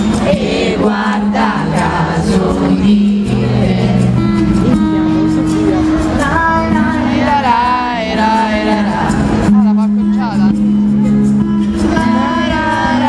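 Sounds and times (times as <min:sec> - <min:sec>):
acoustic guitar playing: 0:00.0 - 0:13.0
person singing: 0:00.0 - 0:13.0.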